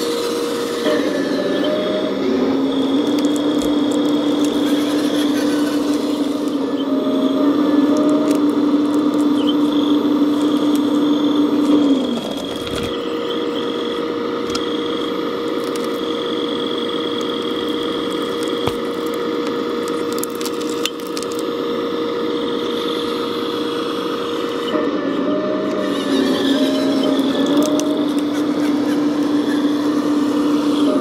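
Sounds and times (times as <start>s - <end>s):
model excavator motor whine: 0.0s - 31.0s.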